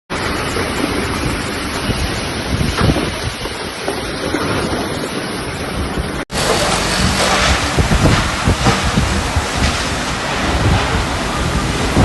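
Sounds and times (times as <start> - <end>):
heavy rain: 0.1 - 12.0
storm wind: 0.1 - 12.0
wind buffeting microphone: 0.1 - 12.0.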